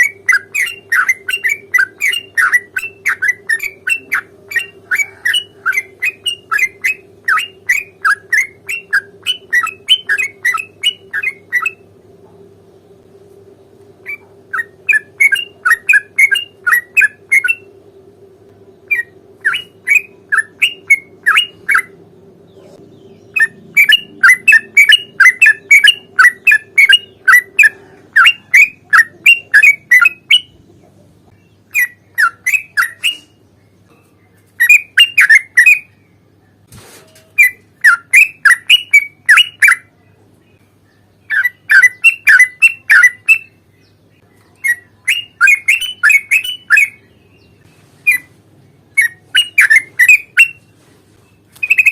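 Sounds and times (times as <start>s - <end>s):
bird singing bubbly chirps: 0.0s - 12.0s, 12.6s - 30.7s, 34.6s - 36.6s, 37.4s - 39.9s, 40.5s - 50.6s, 51.6s - 51.9s.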